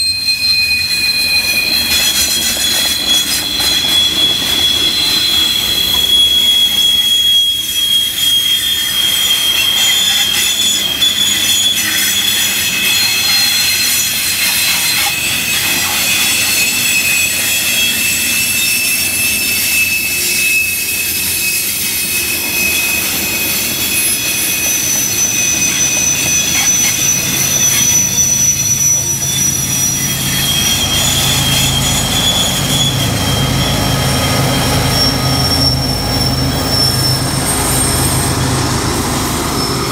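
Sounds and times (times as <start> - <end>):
diesel locomotive engine: 0.0 - 39.9
high-pitched train wheel squeal: 0.0 - 39.9
rumble of wheels on rail: 0.0 - 39.9.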